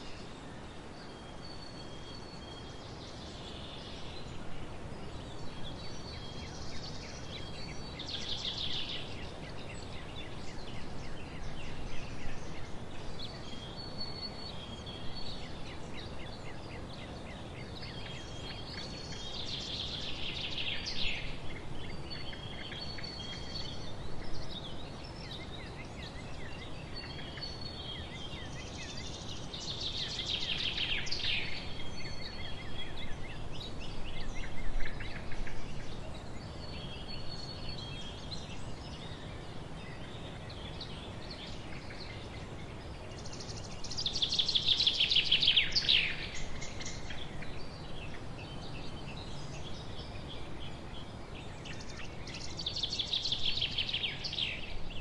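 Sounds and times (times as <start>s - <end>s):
outdoor background hiss: 0.0s - 55.0s
songbirds singing: 0.0s - 55.0s.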